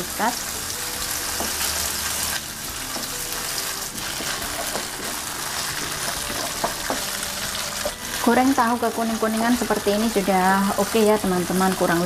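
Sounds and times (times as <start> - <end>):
tofu sizzling in oil: 0.0 - 12.0.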